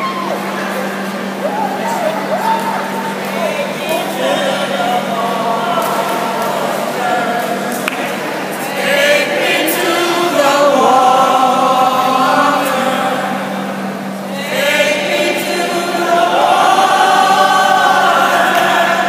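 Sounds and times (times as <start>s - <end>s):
group of people singing: 3.0s - 19.0s.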